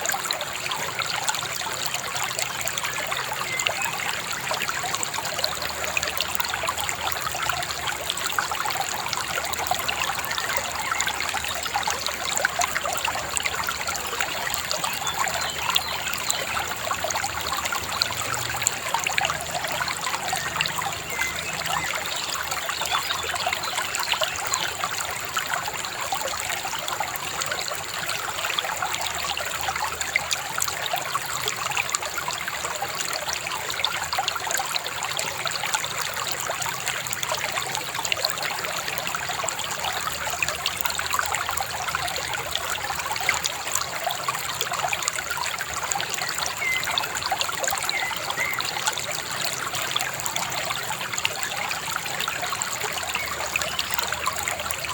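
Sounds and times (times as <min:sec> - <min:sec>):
small river babbling: 0:00.0 - 0:54.9.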